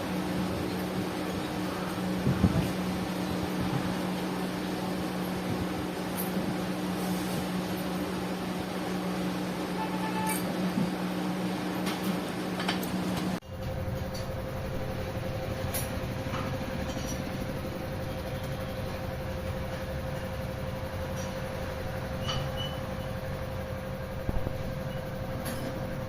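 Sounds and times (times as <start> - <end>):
machine running with constant tone: 0.0 - 26.0.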